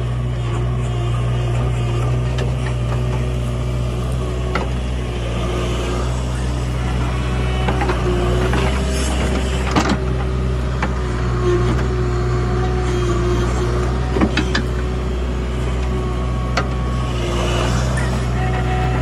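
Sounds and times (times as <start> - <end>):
diesel engine running with whine: 0.0 - 19.0.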